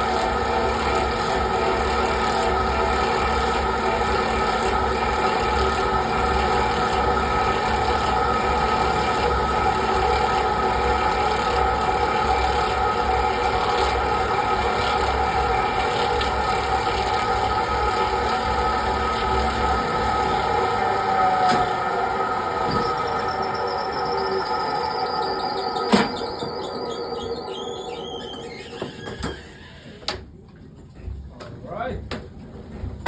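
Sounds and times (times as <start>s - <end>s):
lathe machine drone: 0.0s - 30.0s.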